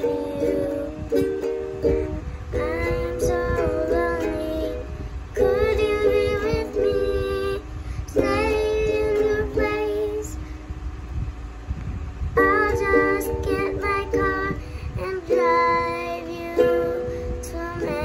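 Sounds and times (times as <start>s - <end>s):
ukulele strumming: 0.0s - 10.4s, 12.4s - 18.0s
girl singing: 0.0s - 10.8s, 12.3s - 18.0s.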